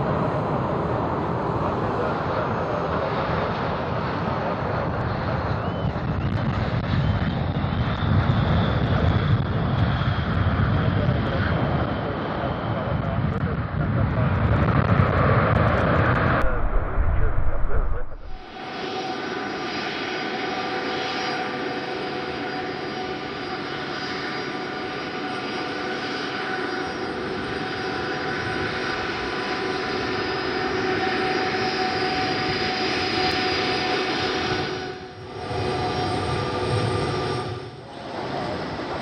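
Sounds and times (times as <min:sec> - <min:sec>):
jet engines whining: 0:00.0 - 0:39.0.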